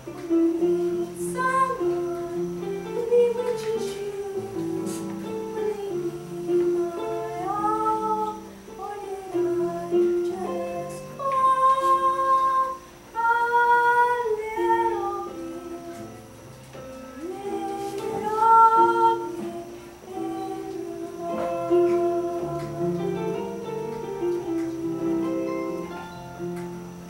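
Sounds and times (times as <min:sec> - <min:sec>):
woman singing: 0:00.0 - 0:16.3, 0:17.2 - 0:23.7.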